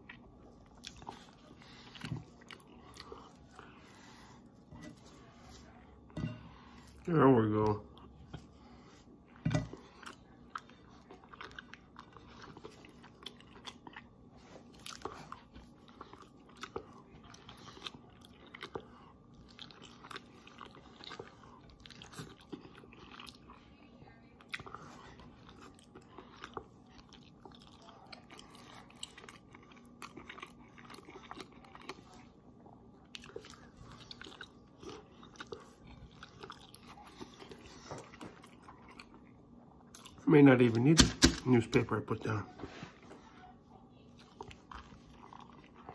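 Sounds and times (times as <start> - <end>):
person chewing and crunching: 0.0 - 41.6, 44.1 - 45.9.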